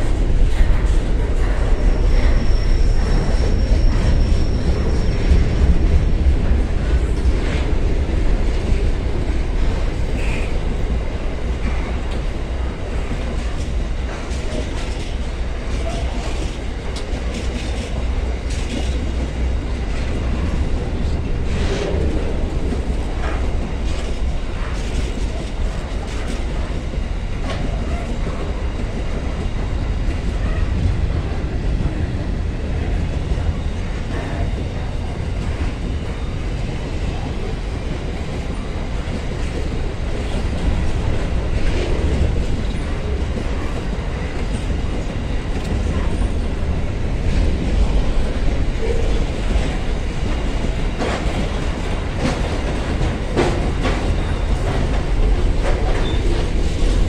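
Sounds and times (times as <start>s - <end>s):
freight train rumbling on rails: 0.0s - 57.0s.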